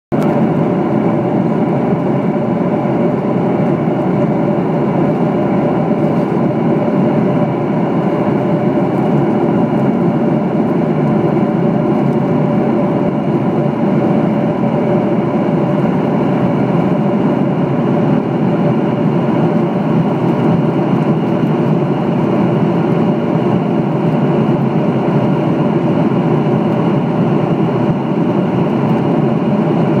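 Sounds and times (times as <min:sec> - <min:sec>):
airplane cabin airflow and engine drone: 0:00.1 - 0:30.0.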